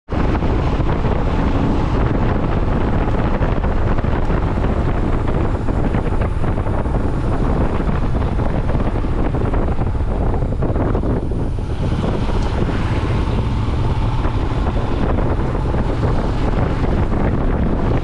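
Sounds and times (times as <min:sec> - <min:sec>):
wind buffeting microphone: 0:00.1 - 0:18.0.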